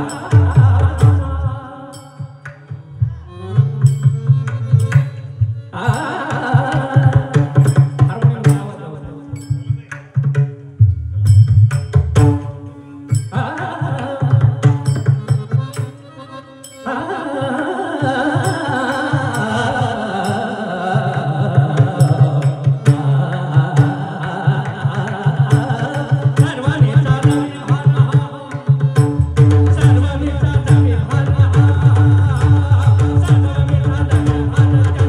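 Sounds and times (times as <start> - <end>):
devotional singing: 0.0 - 4.4, 5.7 - 9.5, 13.1 - 15.7, 16.3 - 35.0.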